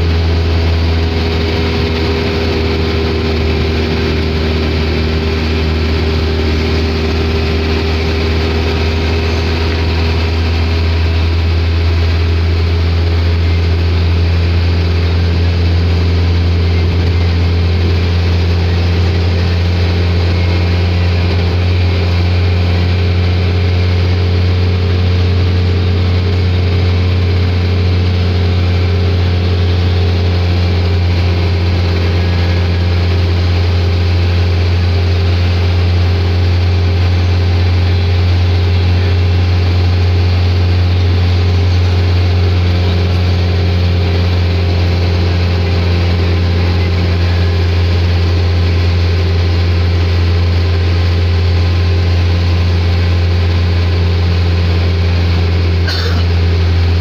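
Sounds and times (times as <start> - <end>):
minibus engine drone: 0.0 - 57.0
road noise: 0.0 - 57.0.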